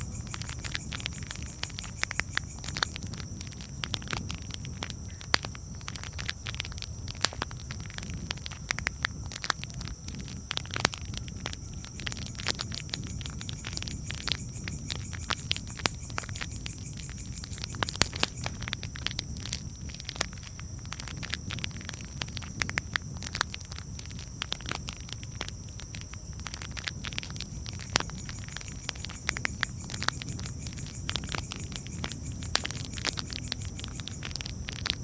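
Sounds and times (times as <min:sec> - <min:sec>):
low rumble of burning fire: 0:00.0 - 0:35.0.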